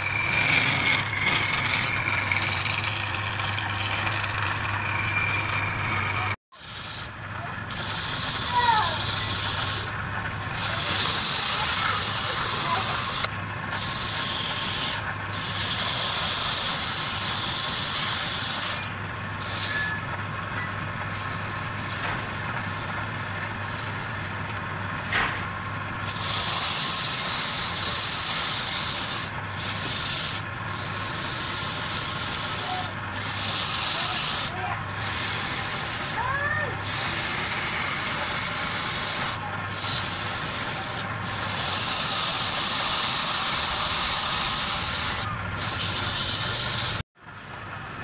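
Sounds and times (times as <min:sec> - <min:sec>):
sandpaper hissing on spinning wood: 0:00.0 - 0:19.9, 0:26.0 - 0:47.0.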